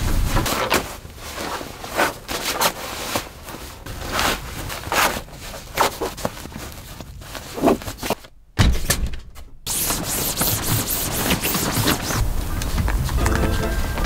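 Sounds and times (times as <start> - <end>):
nylon sack rustling and scraping: 0.0 - 8.2, 10.0 - 14.0.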